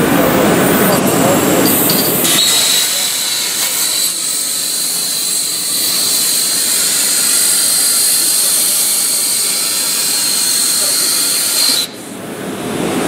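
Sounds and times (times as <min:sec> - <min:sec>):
high-pitched arc whine: 0:00.0 - 0:12.2
plasma torch hissing: 0:00.7 - 0:12.1.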